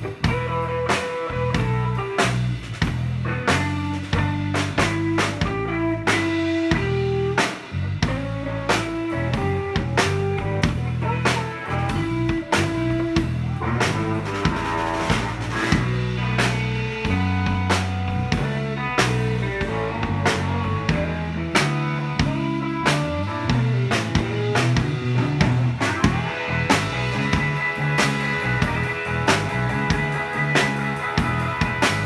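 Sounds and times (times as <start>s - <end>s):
blues band playing: 0.0s - 32.0s
drum beat: 0.0s - 32.0s
electric guitar: 0.0s - 32.0s.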